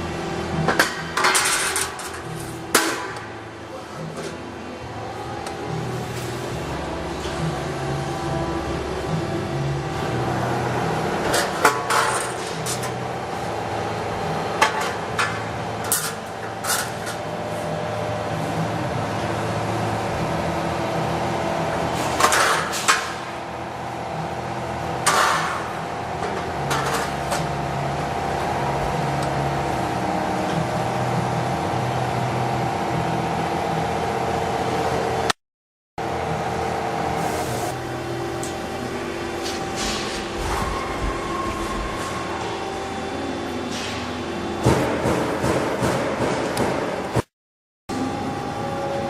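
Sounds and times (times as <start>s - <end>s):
hydraulic unit humming: 0.0s - 35.3s, 36.0s - 47.2s, 47.9s - 49.0s.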